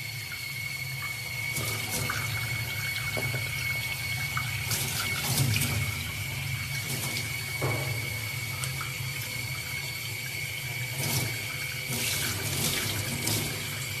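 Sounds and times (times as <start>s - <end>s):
tap water running: 0.0s - 14.0s.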